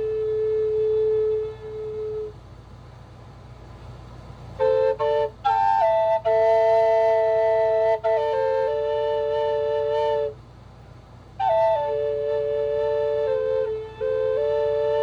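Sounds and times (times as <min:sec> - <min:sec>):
solo flute: 0:00.0 - 0:02.6, 0:04.5 - 0:10.7, 0:11.3 - 0:15.0.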